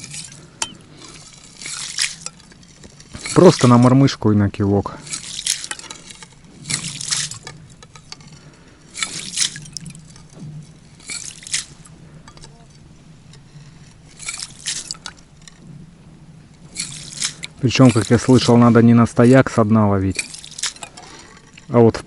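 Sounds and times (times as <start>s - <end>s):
ice chips scooped and sloshed: 0.0s - 8.3s, 8.9s - 10.3s, 10.9s - 11.9s, 13.6s - 15.5s, 16.7s - 21.8s.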